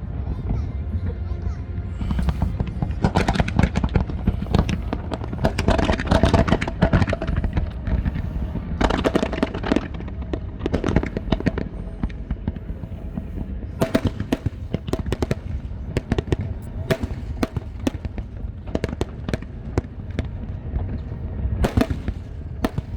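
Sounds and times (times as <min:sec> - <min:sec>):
fireworks bangs and crackles: 0:02.0 - 0:22.9.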